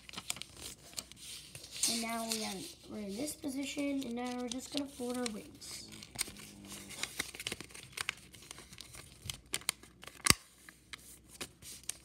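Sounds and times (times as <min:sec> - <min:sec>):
paper folding and crinkling: 0:00.0 - 0:12.0.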